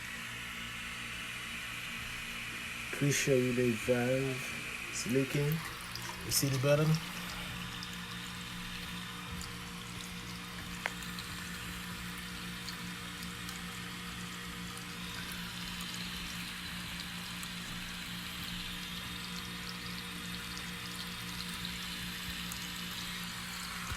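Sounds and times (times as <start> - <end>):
low steady hum: 0.0 - 23.9
water hissing from valve: 0.4 - 23.9.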